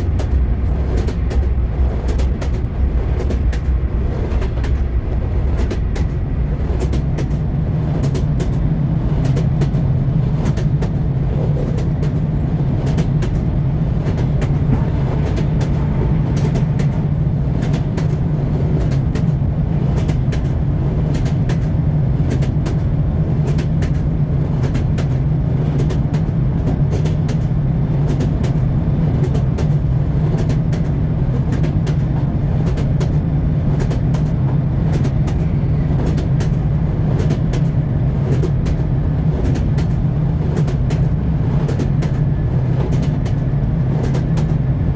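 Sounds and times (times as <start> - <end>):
train wheels clattering on rails: 0.0 - 44.9.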